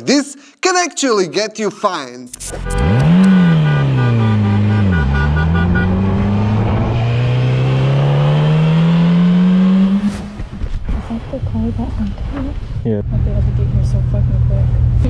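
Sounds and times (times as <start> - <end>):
vehicle engine accelerating: 2.4 - 15.0.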